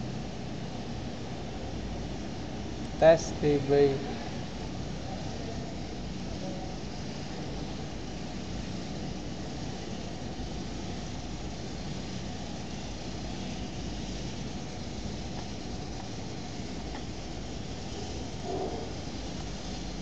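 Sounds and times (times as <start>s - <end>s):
background hiss and low rumble: 0.0s - 20.0s.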